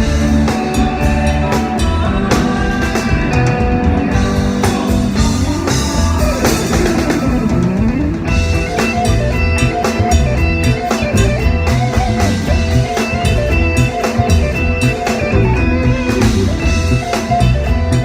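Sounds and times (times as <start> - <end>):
drum and bass beat: 0.0 - 18.0.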